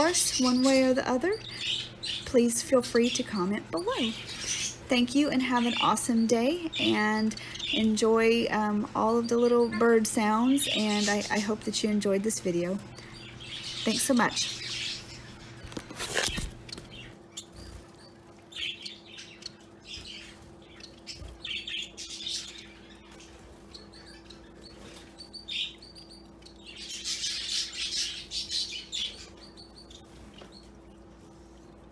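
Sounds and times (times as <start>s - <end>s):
faint steady hum: 0.0s - 31.9s
pet finches chirping: 0.0s - 31.9s.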